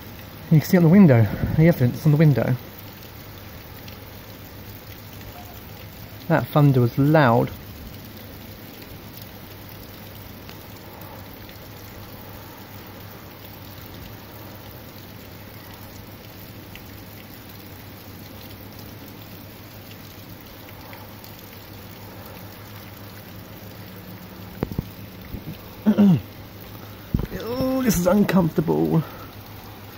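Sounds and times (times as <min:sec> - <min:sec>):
steady rain: 0:00.0 - 0:29.9.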